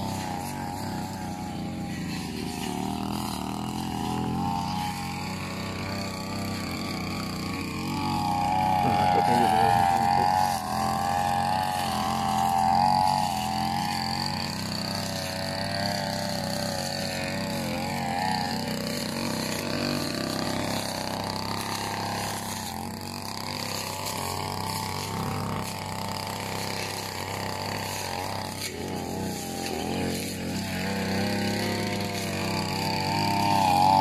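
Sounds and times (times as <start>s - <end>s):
two-stroke brush cutter engine: 0.0s - 34.0s.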